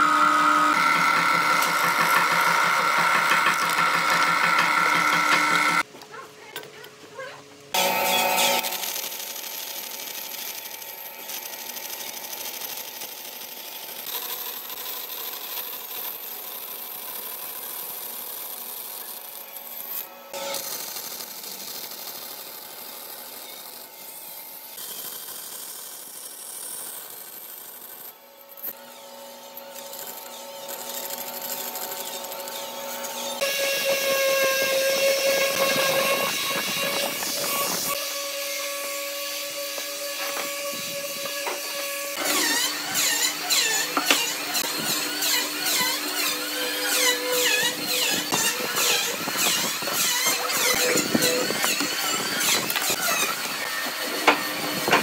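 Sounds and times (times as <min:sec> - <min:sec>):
power tools cutting wood: 0:00.0 - 0:05.9, 0:07.7 - 0:55.0
steady motor hum: 0:00.0 - 0:26.4, 0:28.1 - 0:55.0.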